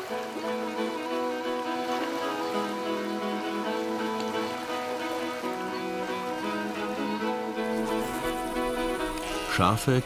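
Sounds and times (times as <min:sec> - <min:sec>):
string ensemble sustained notes: 0:00.0 - 0:10.0.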